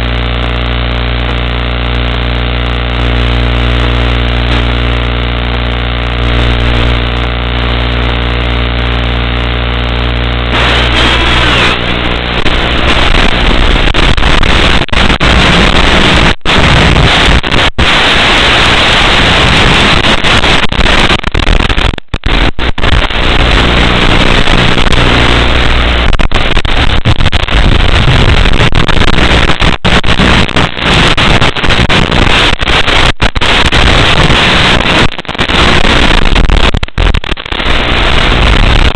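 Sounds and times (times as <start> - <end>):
electronic buzz of held tones: 0.0 - 31.9
harsh static hiss: 0.0 - 38.9.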